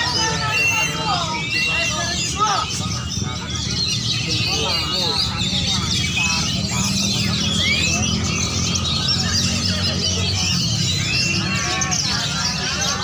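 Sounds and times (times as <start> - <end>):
many songbirds singing: 0.0 - 13.0.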